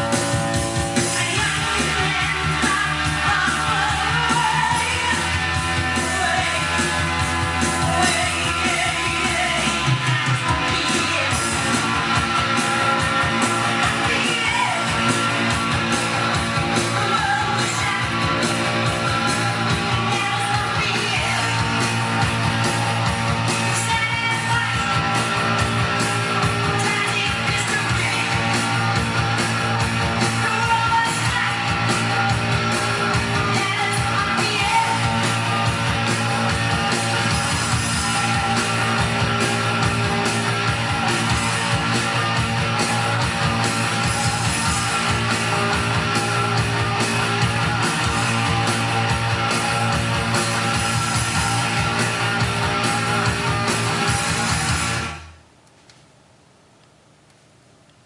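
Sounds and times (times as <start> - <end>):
rock song with singing and guitar: 0.0 - 55.3.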